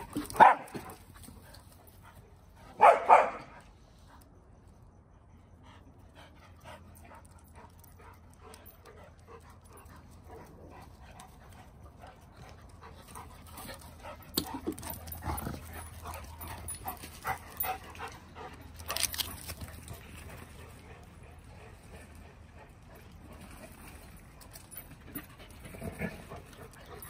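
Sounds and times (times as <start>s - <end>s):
dogs panting: 0.0s - 27.0s.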